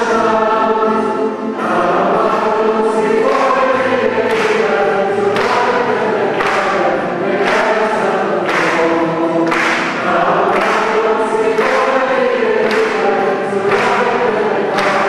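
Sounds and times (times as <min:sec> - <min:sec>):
congregation singing a hymn: 0:00.0 - 0:15.0.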